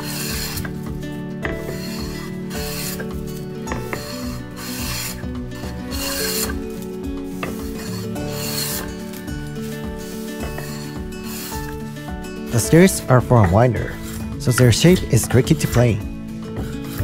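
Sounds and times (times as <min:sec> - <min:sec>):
hand plane shaving wood: 0:00.0 - 0:17.0.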